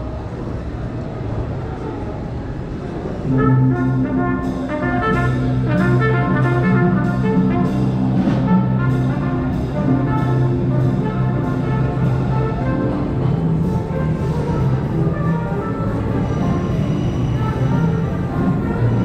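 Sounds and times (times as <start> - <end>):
trumpet melody: 3.2 - 19.0
drums with cymbal beat: 3.4 - 19.0.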